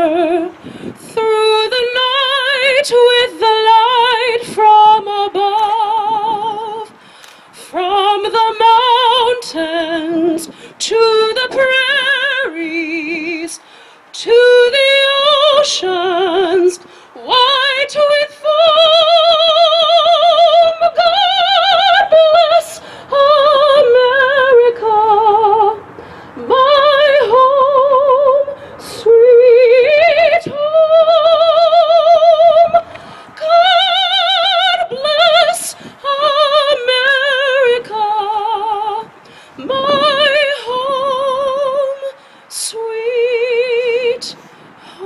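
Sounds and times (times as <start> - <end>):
soprano singing with vibrato: 0.0 - 7.0, 7.6 - 45.0.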